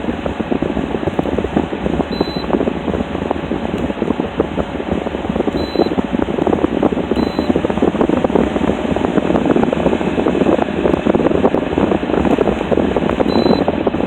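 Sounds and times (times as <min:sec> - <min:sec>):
air conditioner fan blowing: 0:00.0 - 0:14.0.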